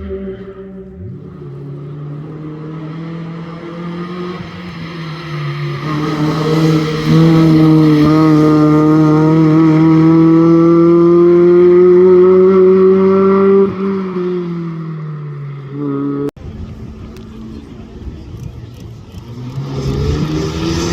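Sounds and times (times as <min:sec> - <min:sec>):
rally car engine accelerating: 0:00.0 - 0:16.4, 0:18.8 - 0:20.9.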